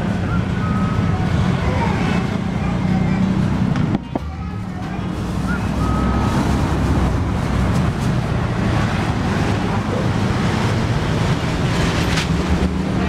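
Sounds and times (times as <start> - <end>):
road traffic rushing past: 0.0 - 13.0.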